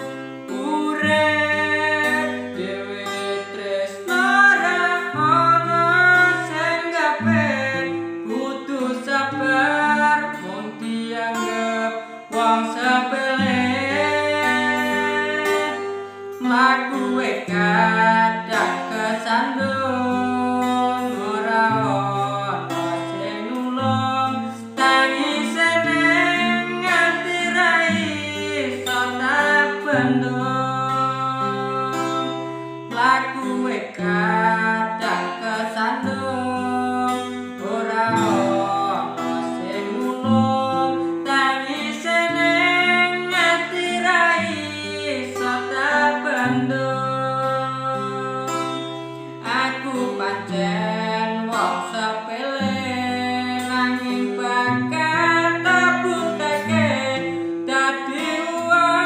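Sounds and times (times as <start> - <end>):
guitar accompaniment: 0.0 - 59.0.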